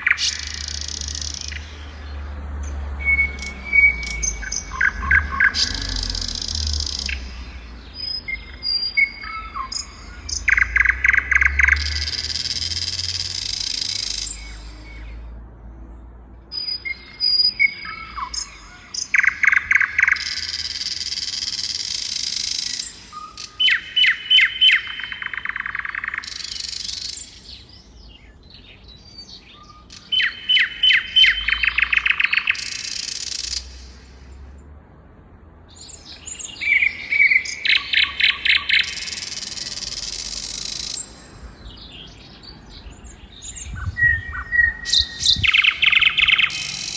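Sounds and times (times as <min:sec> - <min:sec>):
songbird singing: 0:00.0 - 0:46.9.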